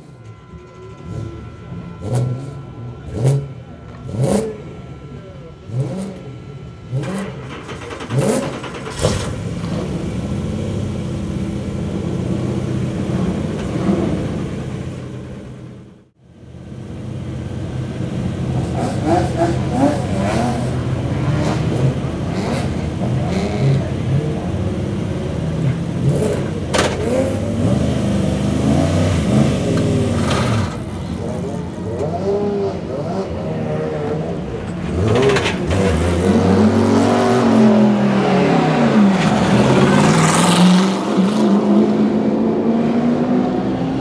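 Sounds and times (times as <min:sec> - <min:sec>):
racing car engines revving: 0:00.0 - 0:44.0.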